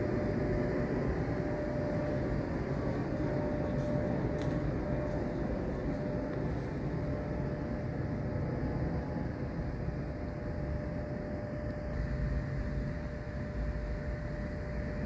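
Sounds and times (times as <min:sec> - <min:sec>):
thin steady hum: 0:00.0 - 0:15.0.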